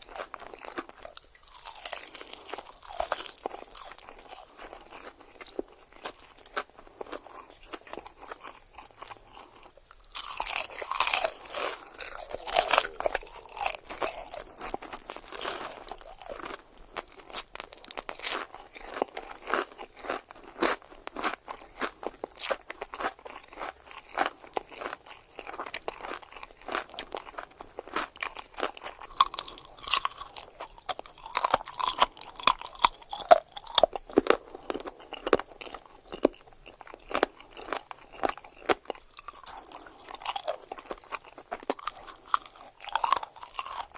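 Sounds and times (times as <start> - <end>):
crunchy food chewing: 0.0 - 43.9.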